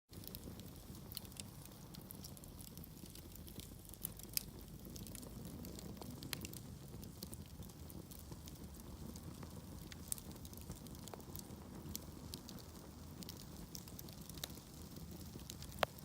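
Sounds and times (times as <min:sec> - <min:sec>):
fire crackling and popping: 0:00.1 - 0:16.0.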